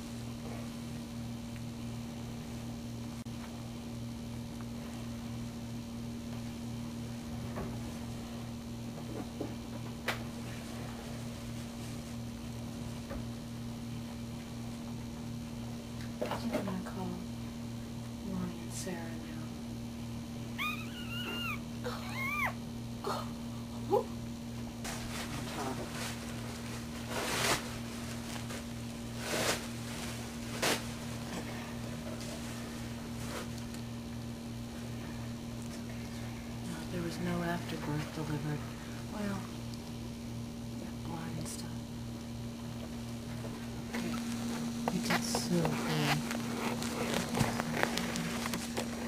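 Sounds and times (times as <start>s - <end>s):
low machine hum: 0.0s - 49.0s.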